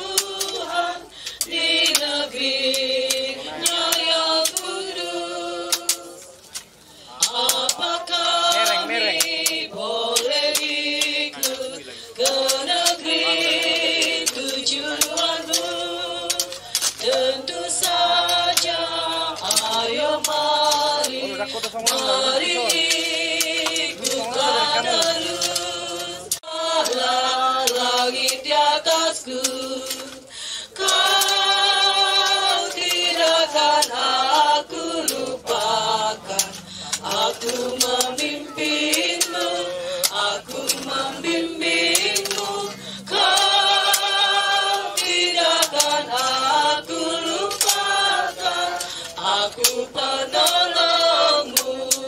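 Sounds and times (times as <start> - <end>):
congregation singing a hymn: 0.0 - 52.0
hoes knocking in soil: 5.6 - 30.2, 30.8 - 52.0.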